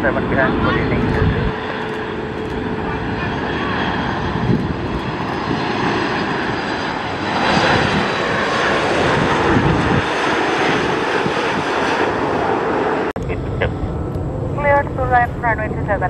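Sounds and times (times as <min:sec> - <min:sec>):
jet airliner engine noise: 0:00.0 - 0:16.0.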